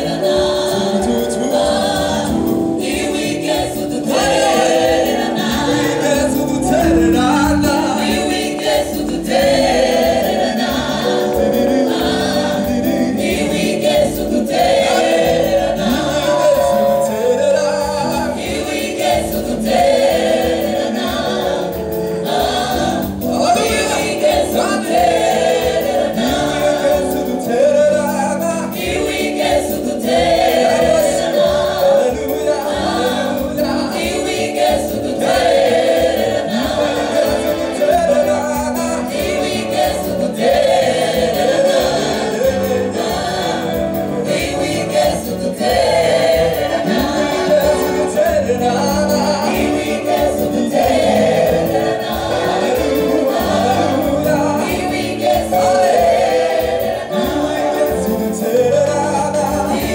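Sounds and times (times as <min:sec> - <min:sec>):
steady drum beat: 0:00.0 - 0:58.6
choir singing gospel: 0:00.0 - 0:59.9
live band: 0:00.0 - 0:59.9.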